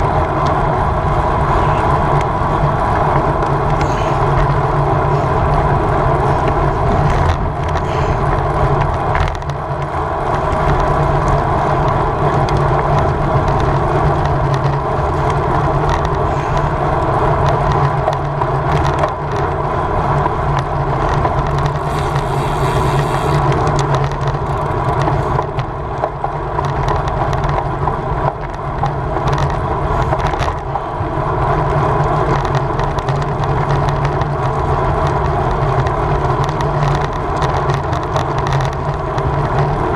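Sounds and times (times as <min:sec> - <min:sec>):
wind and road noise on bicycle: 0:00.0 - 0:39.9.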